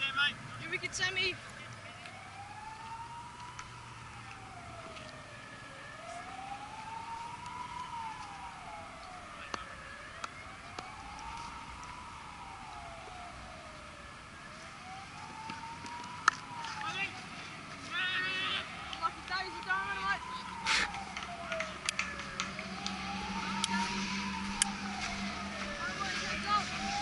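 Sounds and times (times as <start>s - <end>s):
siren wailing: 0.0s - 27.0s.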